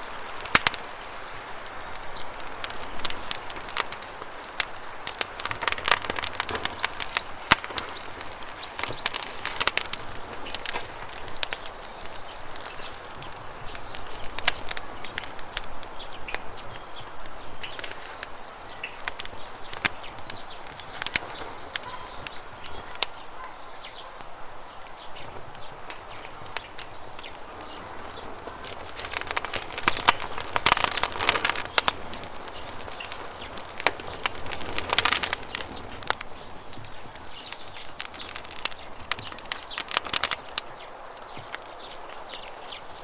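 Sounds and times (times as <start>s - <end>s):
campfire crackling and popping: 0.0s - 43.0s
small birds chirping: 0.0s - 43.0s.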